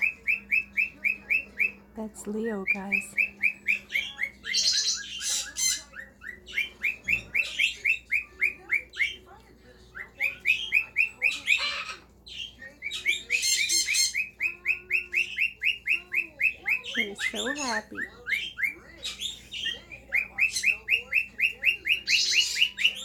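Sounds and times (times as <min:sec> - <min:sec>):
cockatiel chirping: 0:00.0 - 0:01.9, 0:02.6 - 0:09.3, 0:09.9 - 0:23.0
cockatiel squawks: 0:03.2 - 0:09.2, 0:10.0 - 0:23.0.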